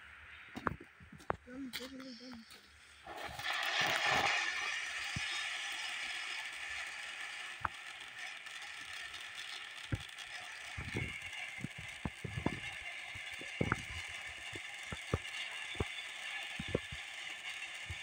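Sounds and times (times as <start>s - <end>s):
sharp pops and crackles: 0.5s - 18.0s
firework fountain hissing sparks: 1.9s - 18.0s.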